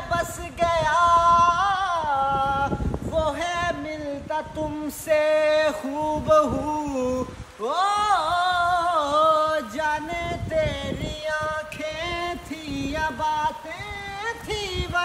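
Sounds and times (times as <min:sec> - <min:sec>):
man singing slow melody: 0:00.0 - 0:15.0.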